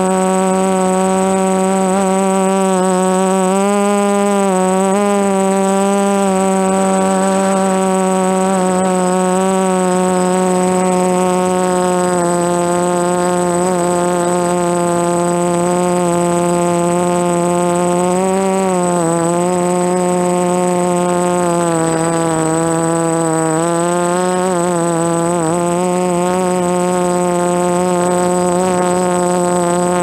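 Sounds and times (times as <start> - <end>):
drone propellers buzzing: 0.0 - 30.0
steady high whine: 0.0 - 30.0.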